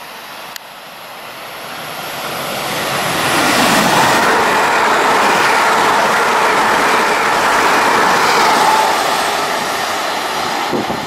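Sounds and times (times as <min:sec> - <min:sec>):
train rushing past: 0:00.2 - 0:11.0.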